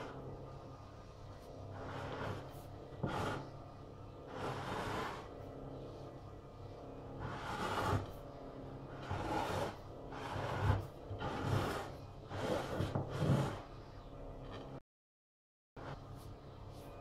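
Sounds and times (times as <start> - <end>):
spatula scraping glaze: 0.0 - 6.1, 6.9 - 14.8.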